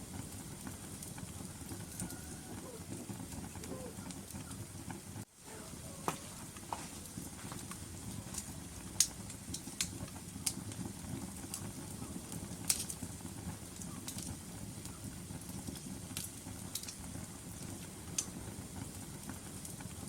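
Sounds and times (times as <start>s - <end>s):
log fire crackling: 0.0s - 20.0s
low rumble of burning wood: 0.0s - 20.0s.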